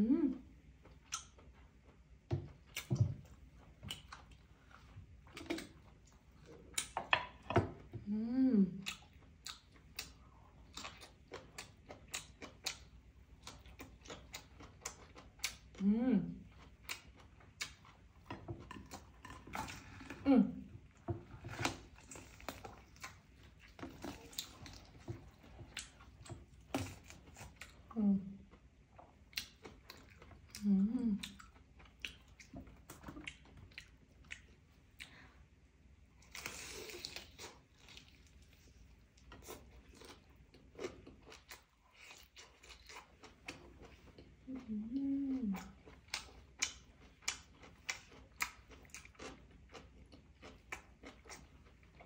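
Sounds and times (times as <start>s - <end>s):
person chewing crunchy food: 8.8s - 15.8s, 16.4s - 35.3s, 36.2s - 52.0s.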